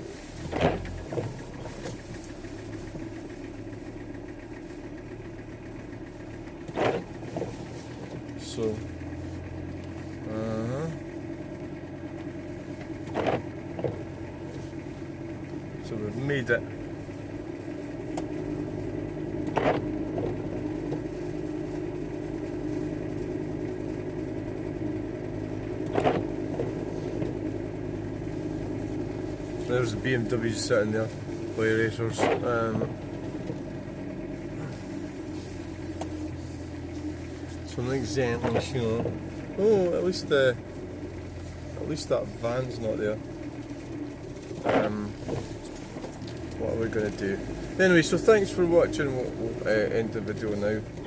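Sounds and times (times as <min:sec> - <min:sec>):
road noise: 0:00.0 - 0:51.0
van engine: 0:00.0 - 0:51.0.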